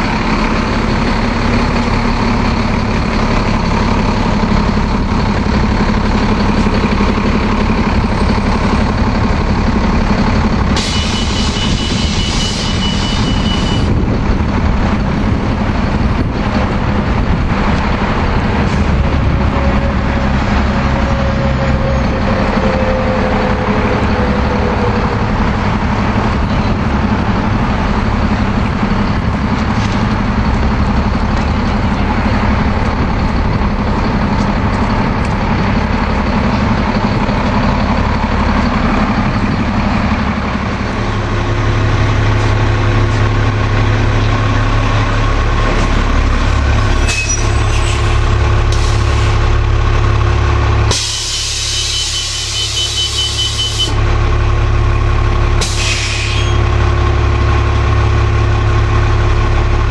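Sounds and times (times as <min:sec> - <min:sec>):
bus diesel engines idling: 0:00.0 - 0:59.9.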